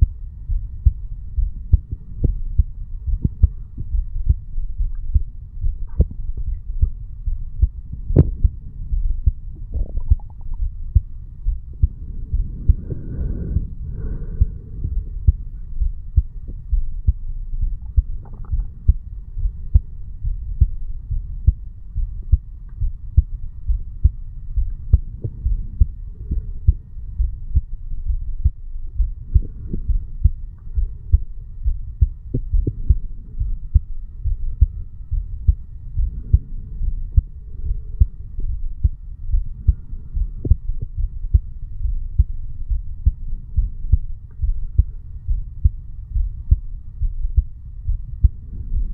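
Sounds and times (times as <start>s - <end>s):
heartbeat: 0.0s - 48.9s.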